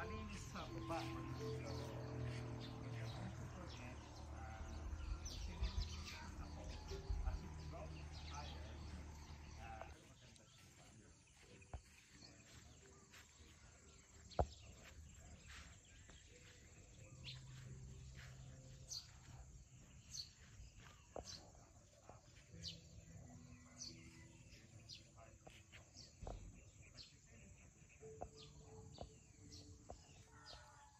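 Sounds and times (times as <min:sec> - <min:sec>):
birds chirping: 0:00.0 - 0:30.9.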